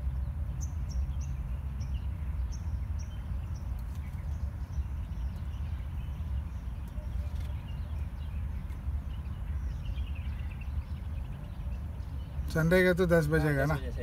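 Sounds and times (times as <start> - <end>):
wind rumbling on microphone: 0.0 - 13.2
faint bird chirps: 0.6 - 14.0.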